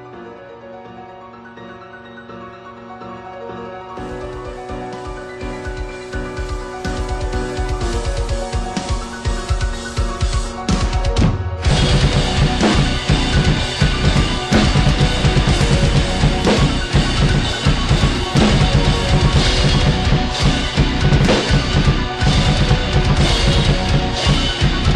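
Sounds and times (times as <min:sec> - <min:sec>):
heavy backing track: 0:03.0 - 0:24.9
drum kit played fast: 0:04.0 - 0:24.9.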